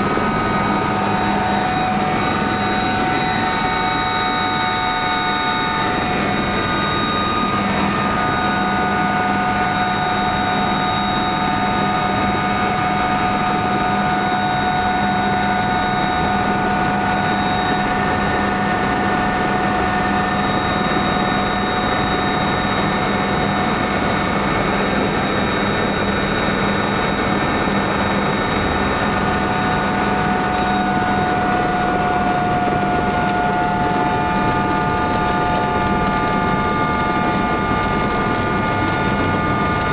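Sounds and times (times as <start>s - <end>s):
helicopter engine and rotor running: 0.0s - 39.9s.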